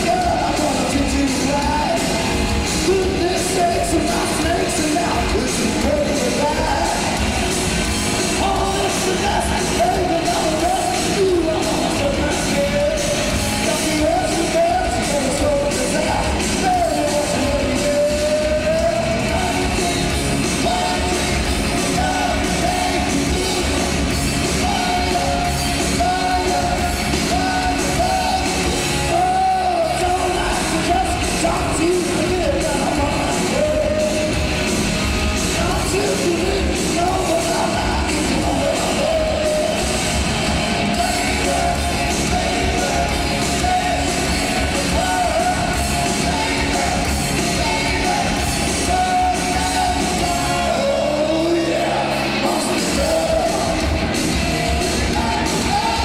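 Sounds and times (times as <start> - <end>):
bass guitar: 0.0 - 56.0
drums: 0.0 - 56.0
electric guitars: 0.0 - 56.0
lead vocal singing: 0.0 - 56.0.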